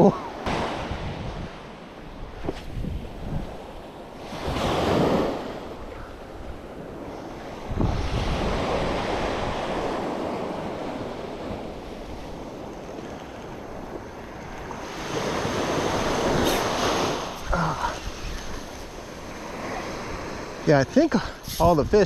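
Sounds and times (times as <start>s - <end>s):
small waves washing up sand: 0.3s - 22.0s
wind buffeting microphone: 0.5s - 20.8s.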